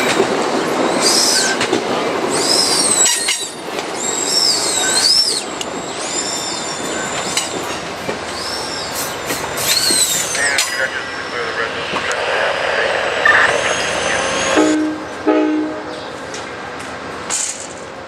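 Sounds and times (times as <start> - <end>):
train wheels squealing on rail: 0.0 - 16.4
train cars rumbling: 0.0 - 18.0.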